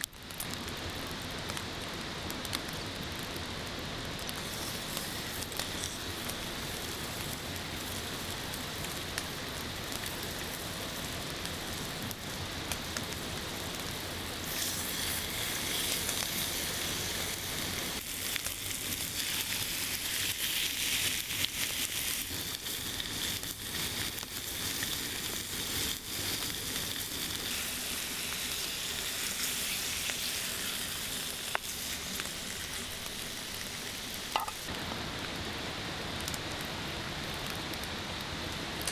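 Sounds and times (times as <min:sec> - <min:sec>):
food sizzling in a pan: 0:00.0 - 0:34.7.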